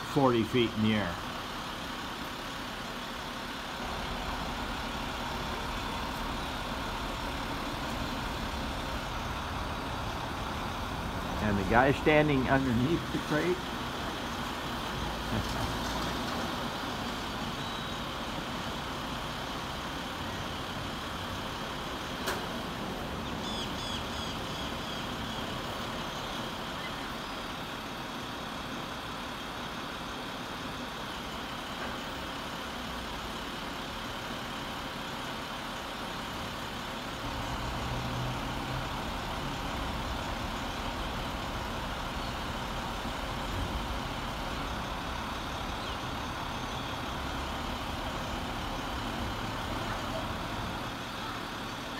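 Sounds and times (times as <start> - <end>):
street traffic: 0.0 - 51.9
truck engine running: 0.0 - 51.9.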